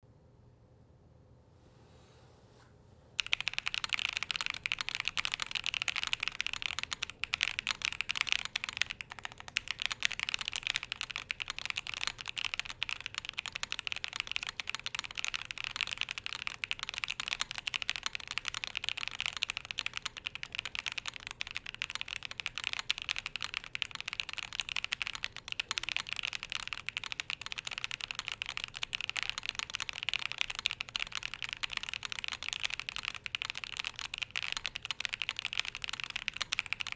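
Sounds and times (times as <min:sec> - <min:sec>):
mechanical keyboard typing: 0:03.2 - 0:36.9.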